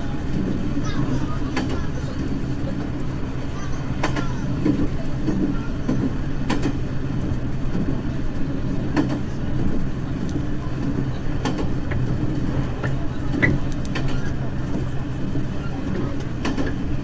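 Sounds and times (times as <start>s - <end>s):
train engine drone: 0.0s - 17.0s
train wheels clicking on rails: 0.0s - 17.0s.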